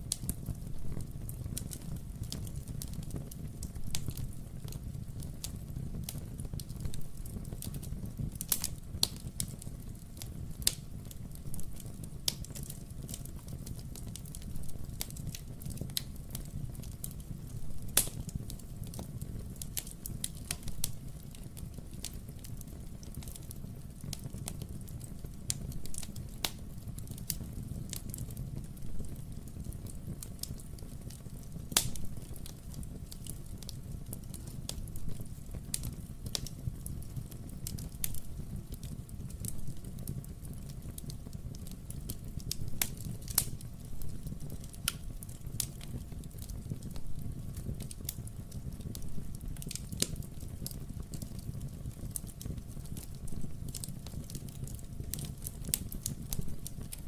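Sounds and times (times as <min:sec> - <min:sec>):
burning logs crackling and popping: 0:00.0 - 0:57.0
fire flames rumbling: 0:00.0 - 0:57.0.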